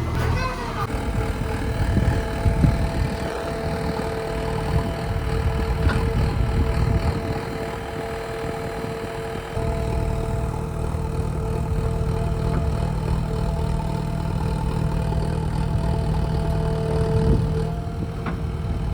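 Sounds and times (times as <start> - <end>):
backhoe loader engine running: 0.0 - 18.9.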